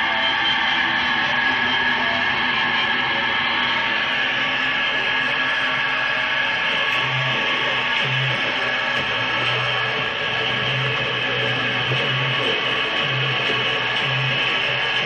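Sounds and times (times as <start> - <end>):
experimental drone music: 0.0 - 15.0.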